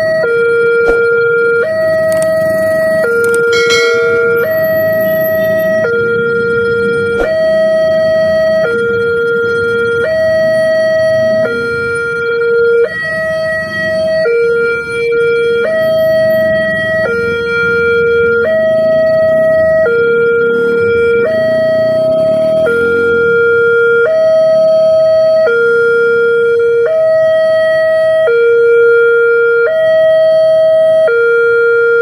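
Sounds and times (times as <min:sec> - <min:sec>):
two-tone level crossing siren: 0:00.0 - 0:32.0.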